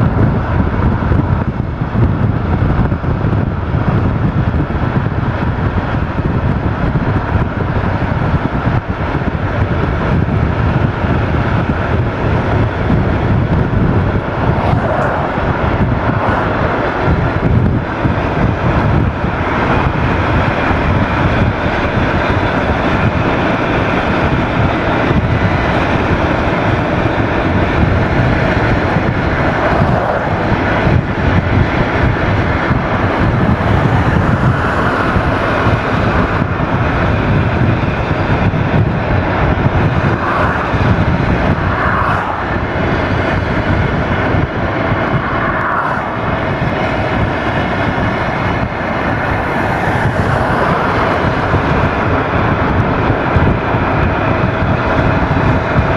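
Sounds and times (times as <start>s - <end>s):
car road and engine noise: 0.0s - 55.9s.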